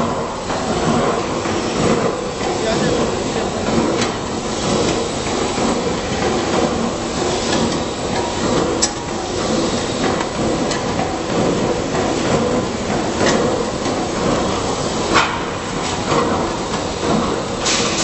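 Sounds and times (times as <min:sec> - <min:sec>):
screw conveyor rattling rumble: 0:00.0 - 0:18.0.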